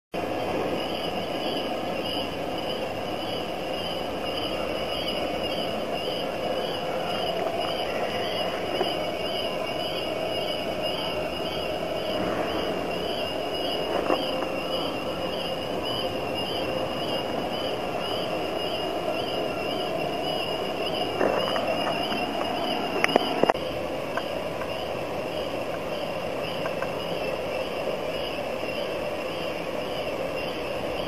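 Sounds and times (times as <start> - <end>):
wavering high whine: 0.2 - 31.0.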